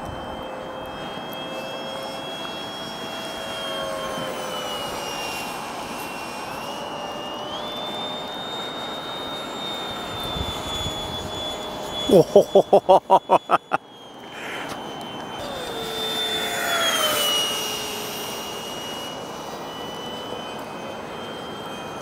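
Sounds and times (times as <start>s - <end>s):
model jet high whine: 0.0s - 22.0s.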